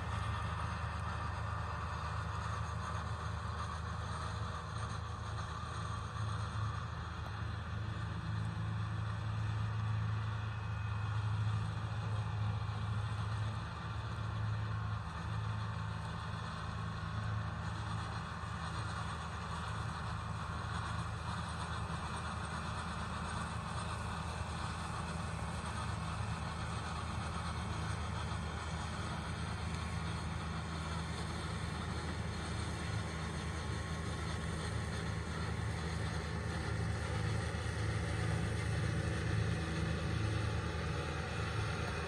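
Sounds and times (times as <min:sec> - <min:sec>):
tractor diesel engine drone: 0:00.0 - 0:42.0.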